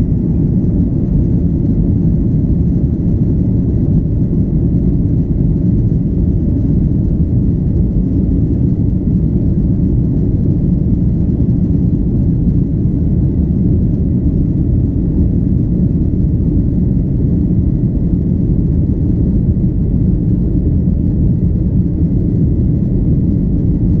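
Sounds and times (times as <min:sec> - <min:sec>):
airliner engine rumble: 0:00.0 - 0:24.0.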